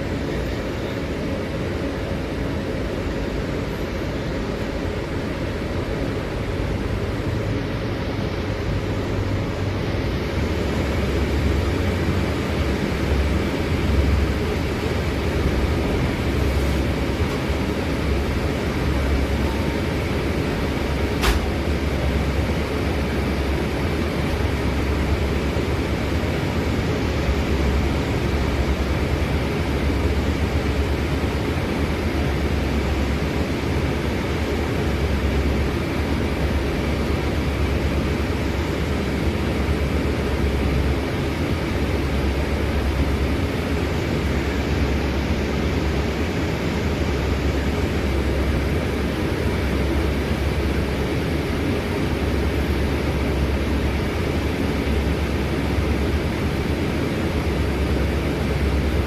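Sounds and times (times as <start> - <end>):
bus engine drone: 0.0 - 59.0
road and cabin noise: 0.0 - 59.0.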